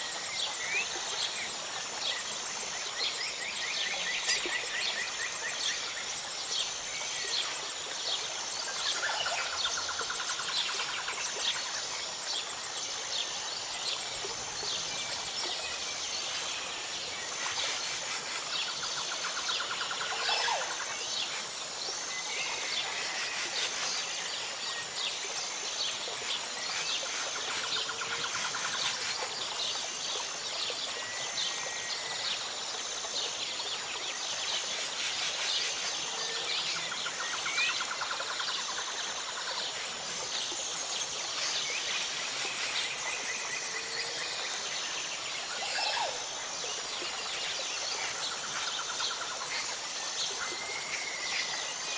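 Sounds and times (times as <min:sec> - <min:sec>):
high insect drone: 0:00.0 - 0:51.9.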